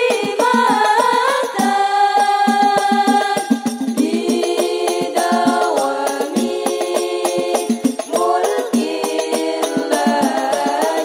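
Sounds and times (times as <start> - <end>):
frame drums beating: 0.0 - 11.0
women singing in unison: 0.0 - 11.0.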